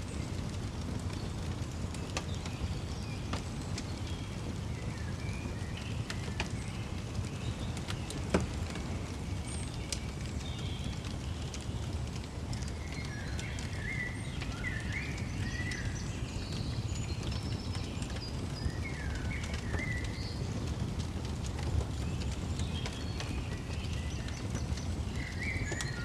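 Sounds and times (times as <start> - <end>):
fire crackling: 0.0 - 26.0
songbirds chirping: 0.1 - 26.0.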